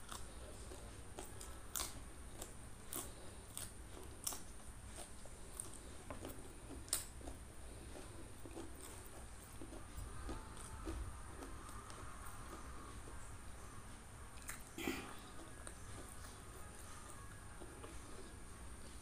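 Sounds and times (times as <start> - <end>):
chewing crisp raw vegetables: 0.0 - 19.0.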